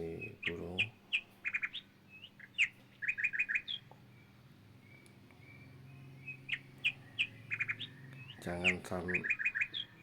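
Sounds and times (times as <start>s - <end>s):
songbird chirping: 0.0s - 10.0s.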